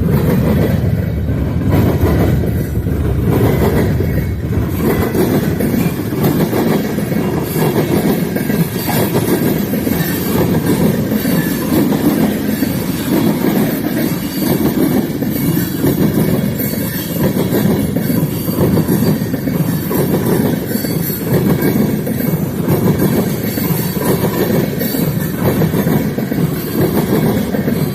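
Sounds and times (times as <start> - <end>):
freight train rolling past: 0.0 - 27.9.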